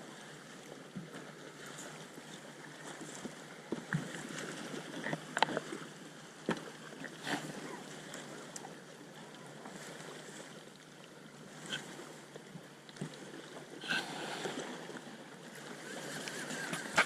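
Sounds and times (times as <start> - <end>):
water noise around boat: 0.0 - 17.0.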